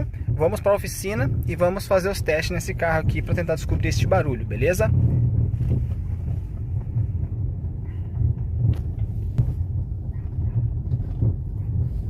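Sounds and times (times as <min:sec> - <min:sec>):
car road rumble: 0:00.0 - 0:12.0
suspension knocks: 0:00.0 - 0:12.0.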